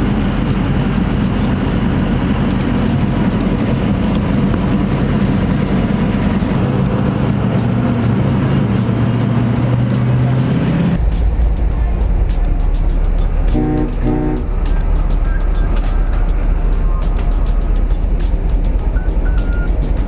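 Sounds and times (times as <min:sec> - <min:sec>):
road noise: 0:00.0 - 0:20.0
vehicle engine drone: 0:00.0 - 0:20.0.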